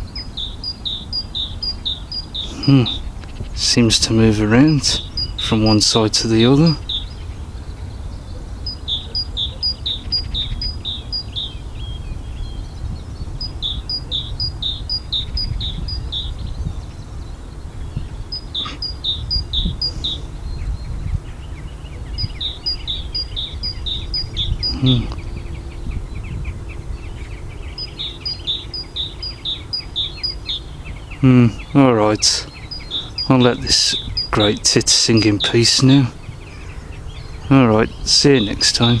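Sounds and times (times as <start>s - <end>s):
bird singing two-note song: 0.0s - 39.0s
steady low rumble: 0.0s - 39.0s.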